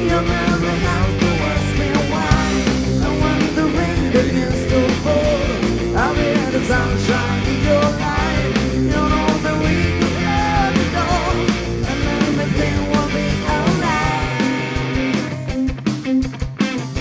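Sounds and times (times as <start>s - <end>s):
steady drum beat: 0.0s - 16.6s
bass guitar: 0.0s - 17.0s
electric guitars: 0.0s - 17.0s.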